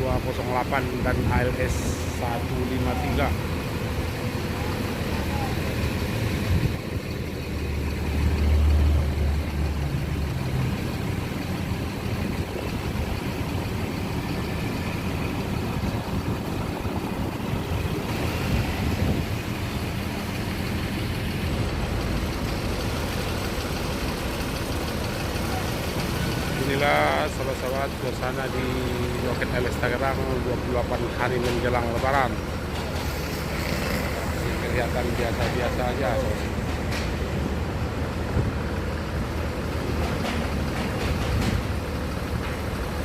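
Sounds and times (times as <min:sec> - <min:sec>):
bus diesel engine running: 0:00.0 - 0:43.0.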